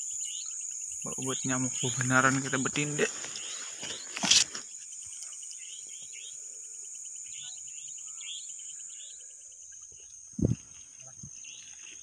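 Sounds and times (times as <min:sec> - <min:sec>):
high-pitched cricket trill: 0:00.0 - 0:12.0
insect chirping: 0:00.0 - 0:12.0.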